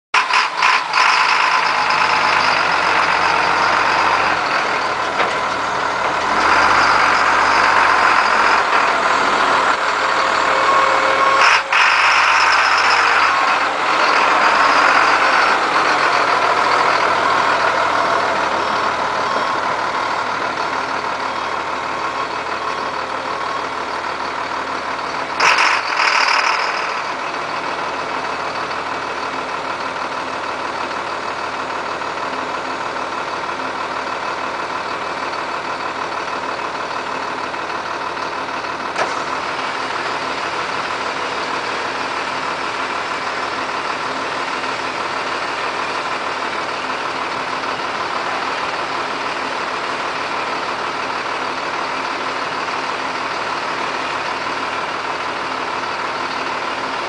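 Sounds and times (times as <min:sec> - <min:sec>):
truck engine running: 0:00.2 - 0:57.0.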